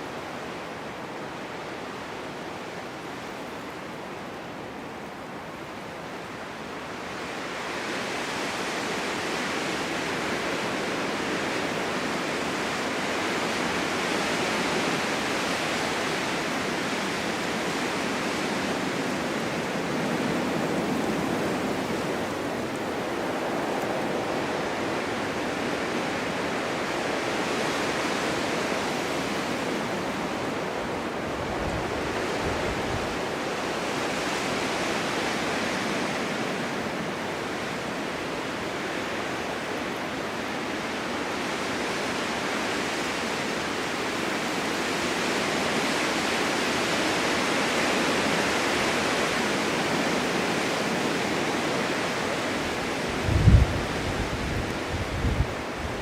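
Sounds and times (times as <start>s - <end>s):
strong wind blowing in gusts: 0.0s - 56.0s.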